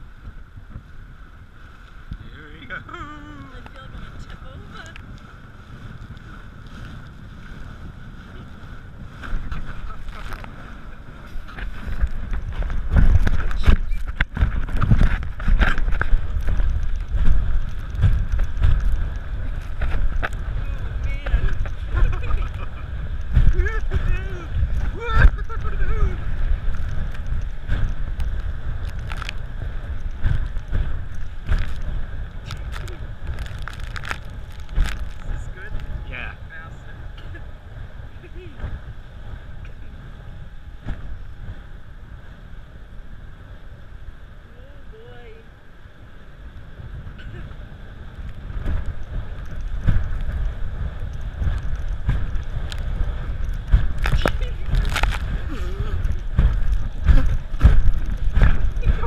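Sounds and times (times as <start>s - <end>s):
water rushing and splashing: 0.0s - 59.0s
wind on microphone: 0.0s - 59.0s.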